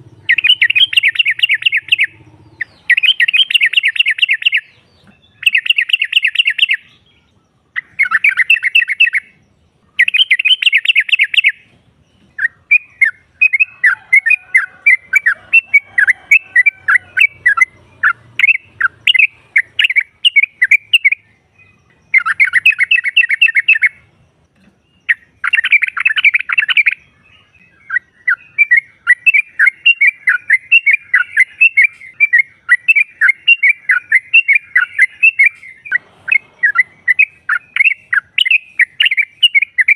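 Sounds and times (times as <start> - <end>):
bird rapid chattering calls: 0.0 - 7.0, 7.8 - 9.4, 10.0 - 24.0, 25.0 - 39.9.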